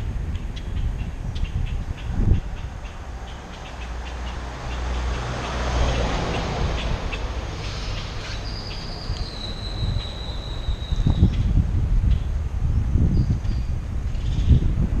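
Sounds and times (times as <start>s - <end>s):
road noise: 0.0s - 15.0s
wind on microphone: 0.0s - 15.0s.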